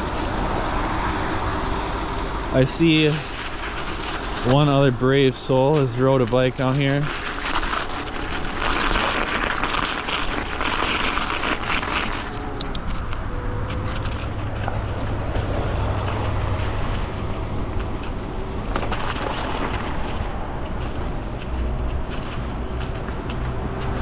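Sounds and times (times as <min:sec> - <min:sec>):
bike tyres rolling with hiss: 0:00.0 - 0:24.0.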